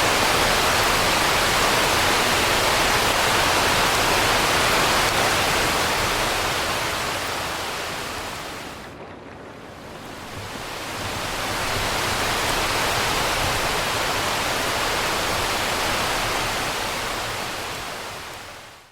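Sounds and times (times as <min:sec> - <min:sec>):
steady rain hiss: 0:00.0 - 0:18.9.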